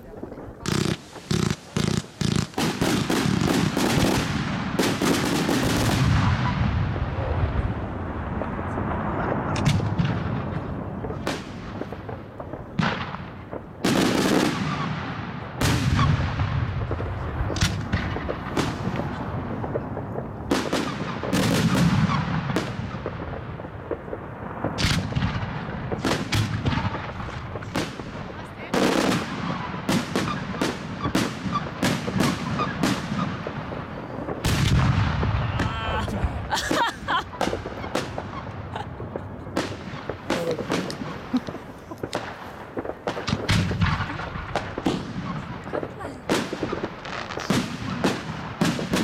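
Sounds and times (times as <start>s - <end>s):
fireworks banging: 0.0s - 49.0s.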